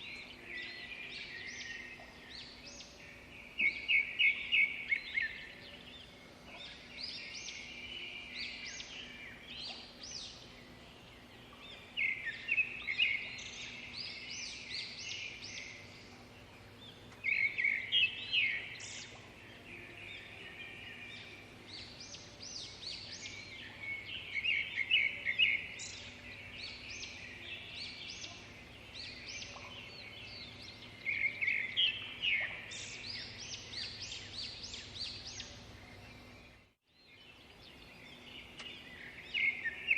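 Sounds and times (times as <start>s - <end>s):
birds chirping and singing: 0.0s - 39.9s
faint steady hum: 0.0s - 39.9s.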